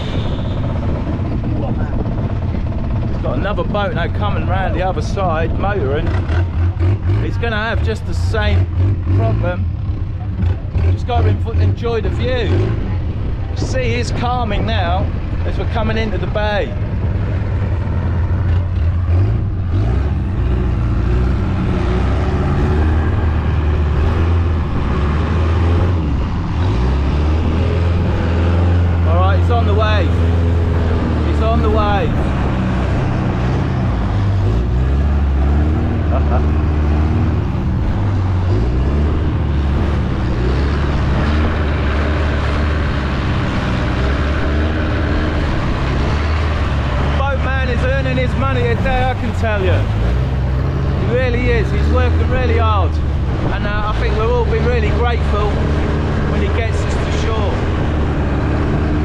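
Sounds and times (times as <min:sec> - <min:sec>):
boat engine running: 0:00.0 - 0:59.0
wind: 0:00.0 - 0:59.0.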